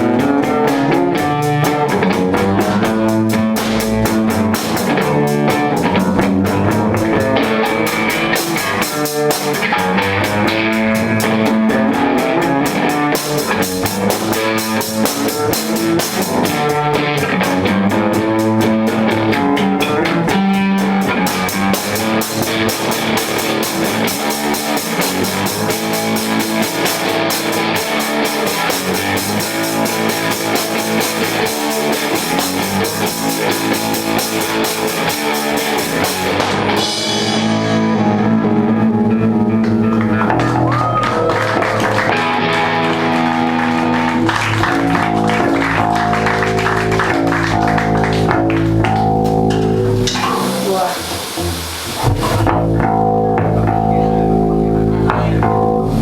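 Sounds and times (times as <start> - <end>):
distorted electric guitar: 0.0 - 56.0
drum kit: 0.0 - 56.0
punk rock band playing loudly: 0.0 - 56.0.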